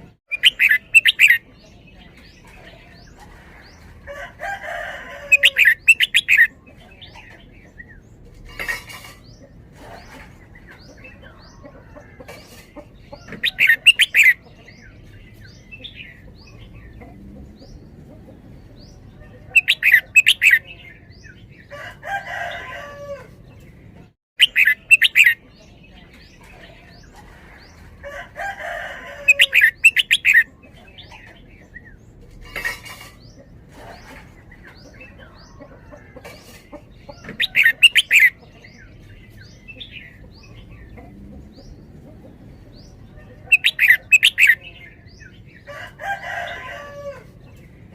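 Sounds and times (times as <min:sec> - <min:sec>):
bird chattering song: 0:00.0 - 0:04.0, 0:05.2 - 0:21.7, 0:24.4 - 0:28.0, 0:29.2 - 0:46.6.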